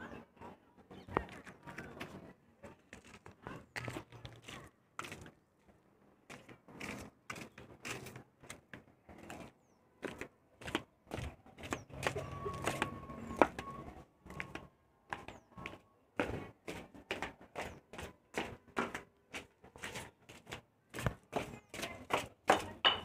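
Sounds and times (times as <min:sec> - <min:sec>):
footsteps on concrete: 0:01.0 - 0:23.0.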